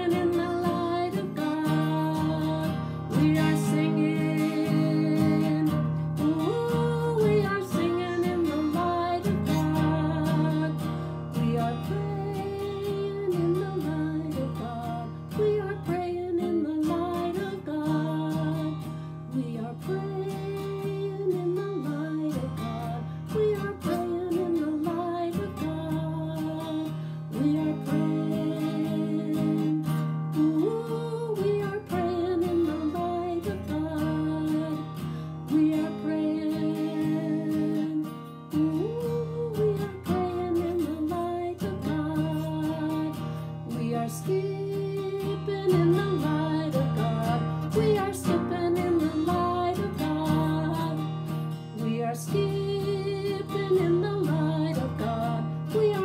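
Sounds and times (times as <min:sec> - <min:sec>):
acoustic guitar strumming: 0:00.0 - 0:56.0
woman singing: 0:00.0 - 0:56.0.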